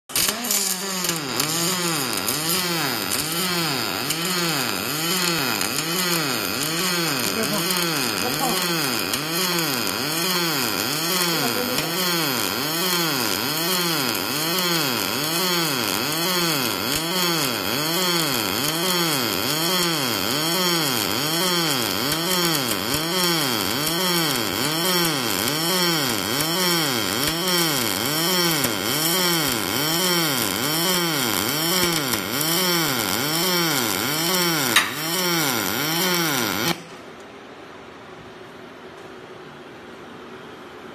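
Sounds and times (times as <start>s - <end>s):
welding arc crackling buzz: 0.0s - 37.0s.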